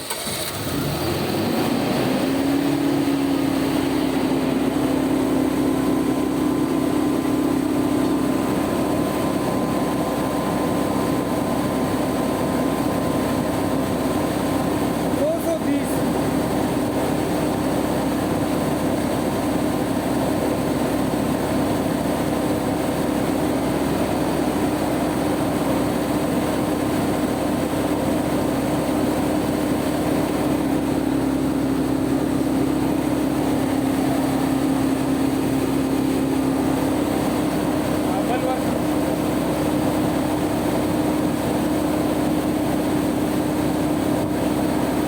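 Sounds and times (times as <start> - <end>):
generator engine running: 0.0 - 45.0.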